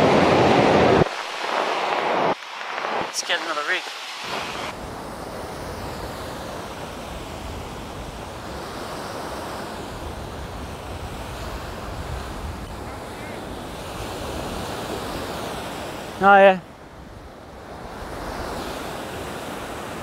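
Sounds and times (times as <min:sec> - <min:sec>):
wind buffeting microphone: 0:00.0 - 0:03.2, 0:03.9 - 0:20.0
surf breaking on a beach: 0:00.0 - 0:20.0.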